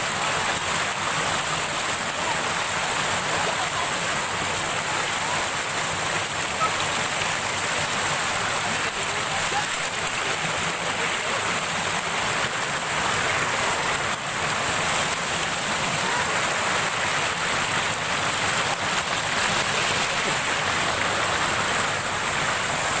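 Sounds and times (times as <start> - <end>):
small waterfall splashing into pool: 0.0 - 23.0.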